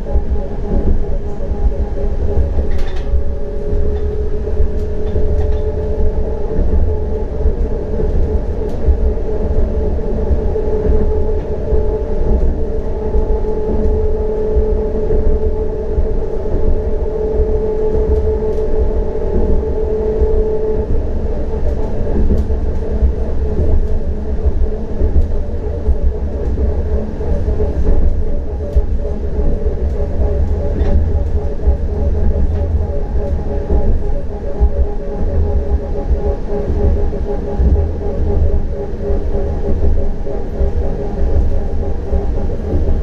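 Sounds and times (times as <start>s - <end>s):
electric traction drive whine: 0.0s - 43.0s.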